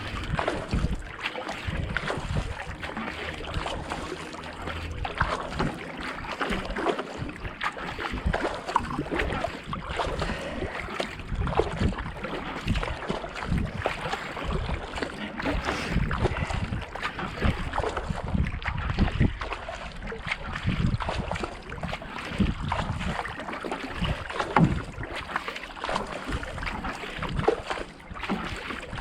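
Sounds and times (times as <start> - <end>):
kayak paddle splashing water: 0.0 - 29.0.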